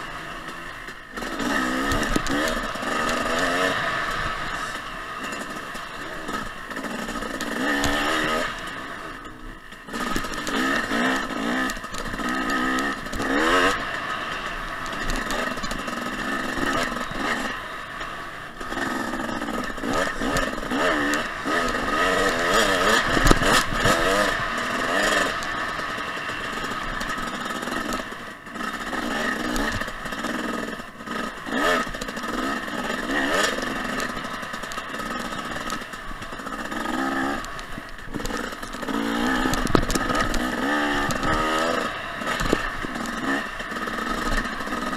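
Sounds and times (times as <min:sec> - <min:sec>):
bike knocks and rattles: 0:00.0 - 0:44.9
dirt bike engine revving: 0:00.0 - 0:44.9.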